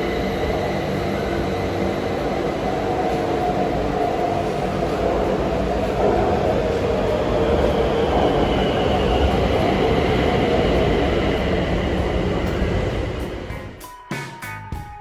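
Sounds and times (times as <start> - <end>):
electric train rolling rumble: 0.0 - 13.8.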